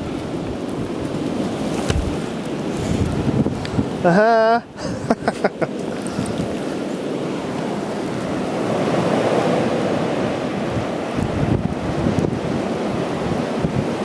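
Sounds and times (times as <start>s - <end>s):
wind blowing against microphone: 0.0s - 14.0s.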